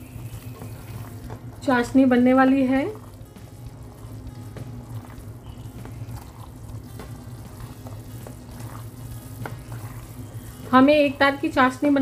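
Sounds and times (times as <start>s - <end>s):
syrup boiling: 0.0s - 12.0s.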